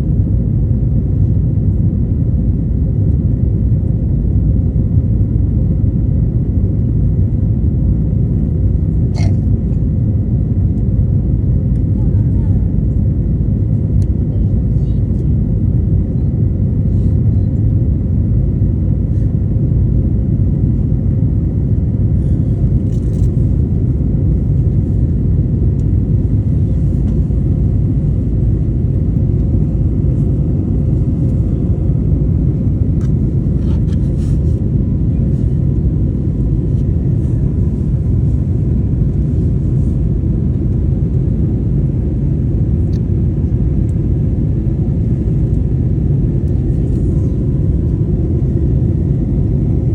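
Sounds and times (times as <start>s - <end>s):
airliner cabin engine rumble: 0.0s - 49.9s
faint steady whine: 0.0s - 49.9s.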